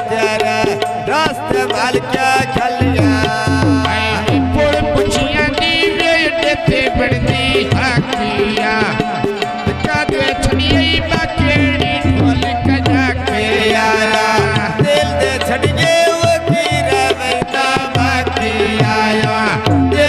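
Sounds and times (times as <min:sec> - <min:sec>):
hand drum rhythm: 0:00.0 - 0:20.0
ornamented folk melody: 0:00.0 - 0:20.0.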